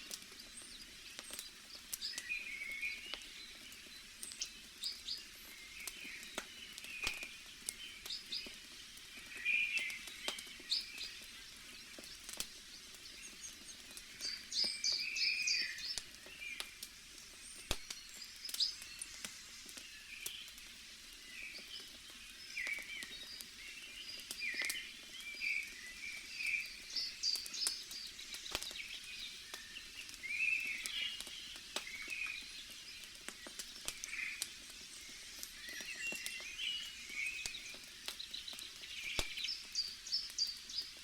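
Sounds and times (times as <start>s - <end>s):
campfire crackling and popping: 0.0s - 41.0s
forest birds chirping: 0.0s - 41.0s.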